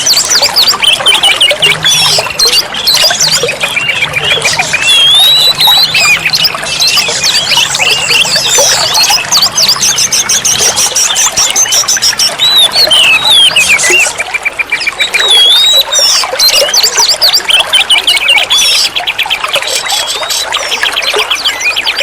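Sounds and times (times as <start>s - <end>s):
songbird whistling and chattering: 0.0s - 22.0s.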